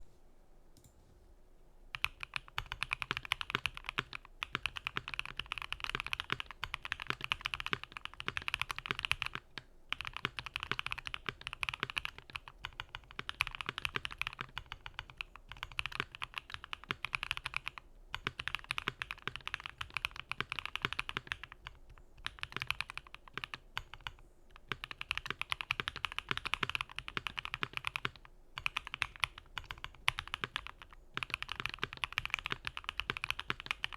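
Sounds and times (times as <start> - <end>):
mechanical keyboard typing: 1.9 - 33.9.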